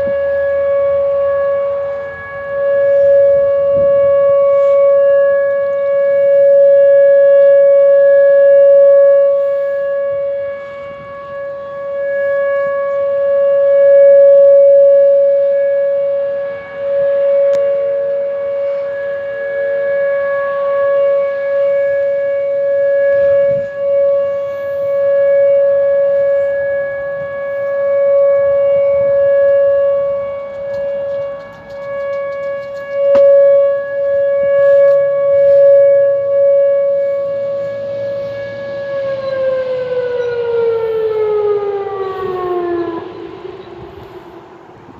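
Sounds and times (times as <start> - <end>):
tornado siren steady tone: 0.0 - 44.9.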